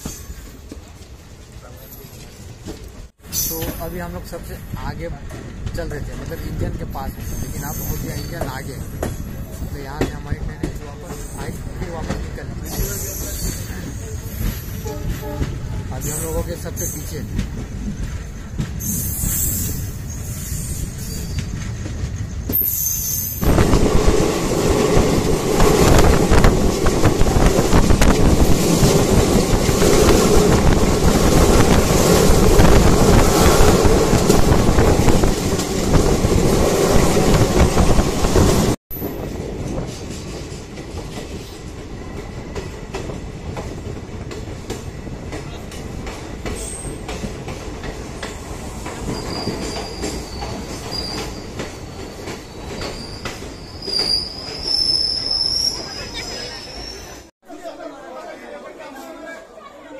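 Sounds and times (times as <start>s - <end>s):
train coach rattling and rumbling: 0.0s - 57.3s.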